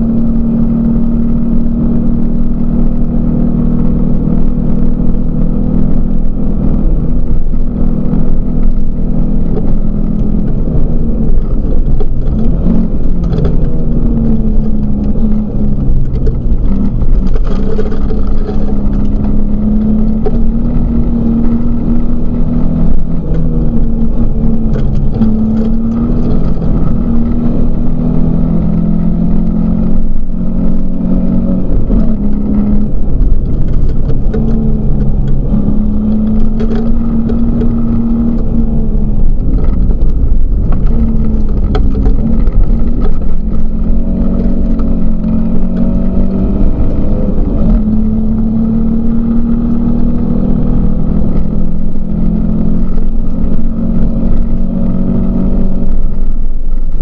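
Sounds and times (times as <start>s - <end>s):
car engine revving: 0.0s - 57.0s
road rumble: 0.0s - 57.0s.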